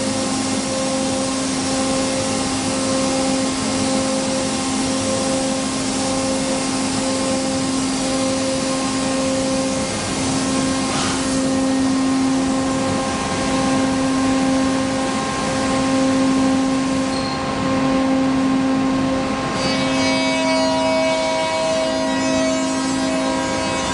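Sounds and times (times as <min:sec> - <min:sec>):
cnc router running: 0:00.0 - 0:23.9.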